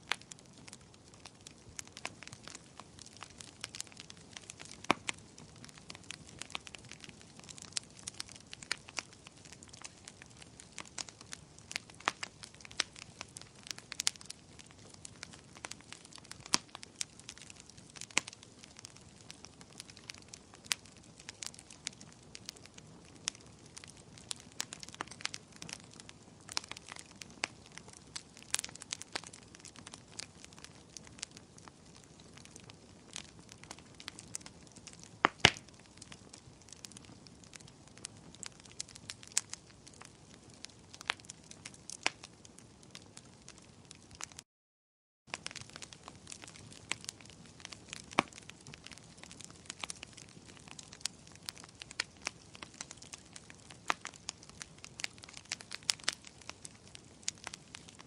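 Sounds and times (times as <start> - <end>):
wood fire crackling and popping: 0.0 - 44.4, 45.3 - 58.0.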